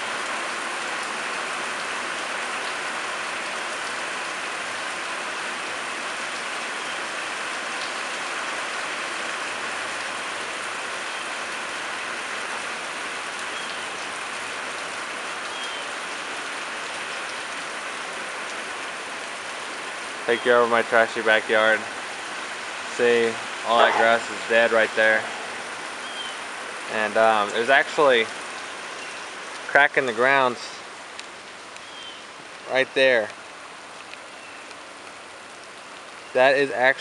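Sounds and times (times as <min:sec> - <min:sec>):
light rain falling: 0:00.0 - 0:37.0.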